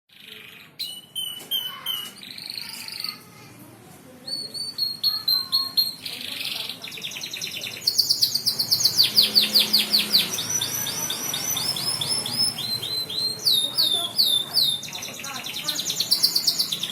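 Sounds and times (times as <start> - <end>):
canary singing trills: 0.1 - 3.3, 4.2 - 16.9.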